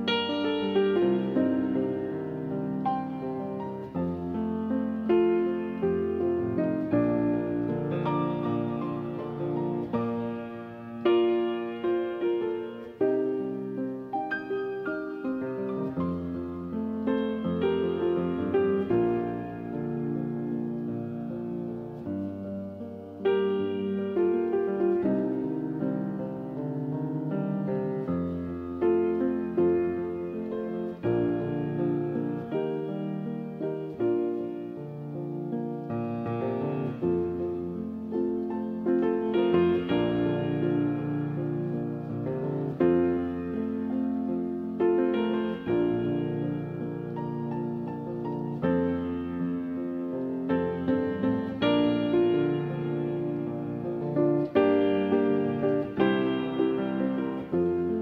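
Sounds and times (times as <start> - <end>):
slow gentle piano music: 0.0 - 58.0.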